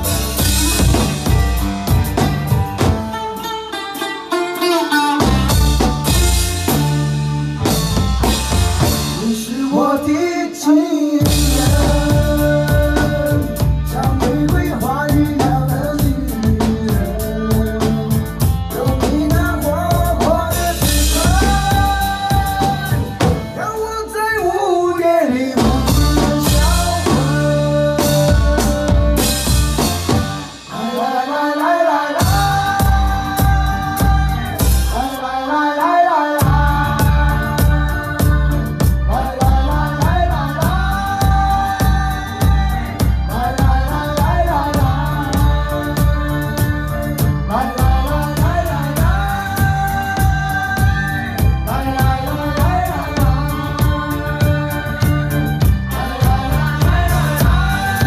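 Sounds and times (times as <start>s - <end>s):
drum kit playing a beat: 0.0s - 58.0s
pop song: 0.0s - 58.0s
man singing into a microphone: 8.8s - 58.0s.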